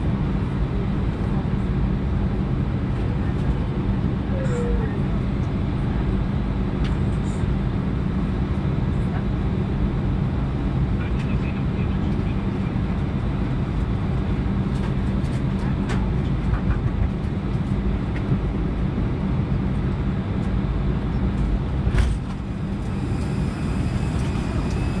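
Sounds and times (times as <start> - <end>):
aircraft cabin drone: 0.0 - 25.0.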